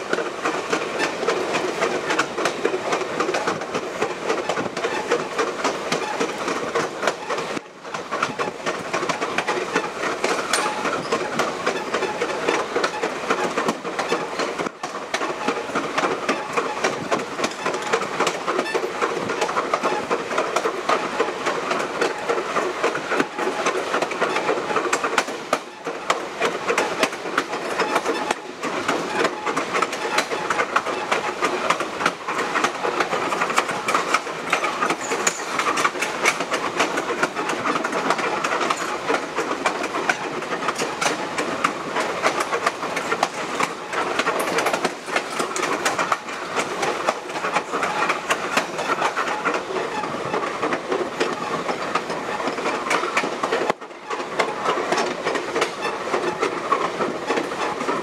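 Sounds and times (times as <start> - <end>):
train wheels rumbling on rails: 0.0 - 58.0
wheels clicking over rail joints: 0.0 - 58.0.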